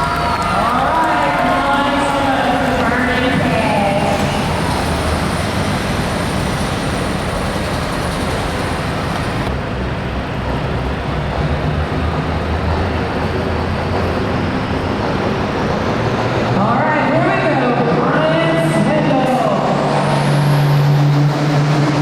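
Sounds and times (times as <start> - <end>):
diesel tractor engine at full throttle: 0.0 - 16.7, 19.5 - 22.0.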